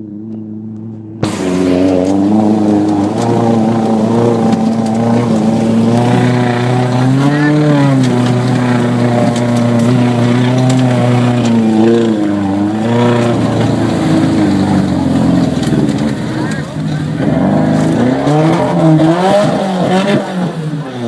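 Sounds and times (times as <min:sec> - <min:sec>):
engine running under load: 0:00.0 - 0:21.0.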